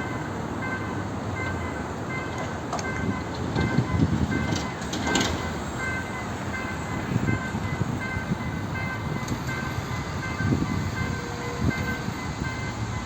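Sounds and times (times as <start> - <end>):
train rumbling with rattles: 0.0 - 13.0.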